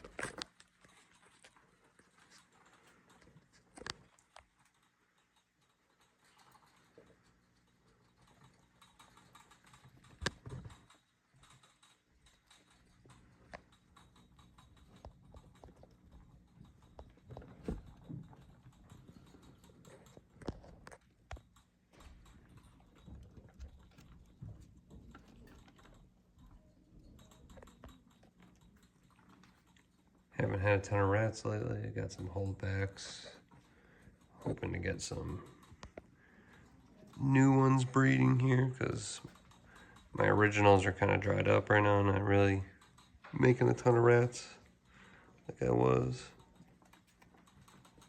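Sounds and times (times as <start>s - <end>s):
handling taps and clicks: 0.0s - 48.0s.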